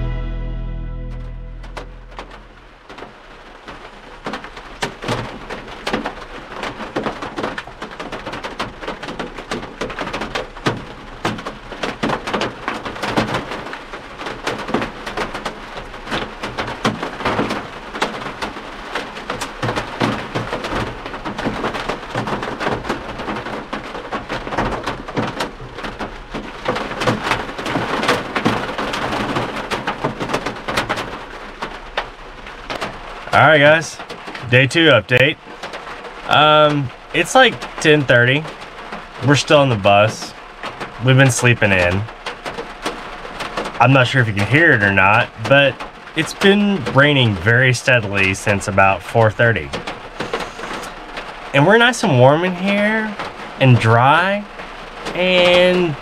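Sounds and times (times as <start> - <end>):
rain on a metal roof: 1.2 - 56.0.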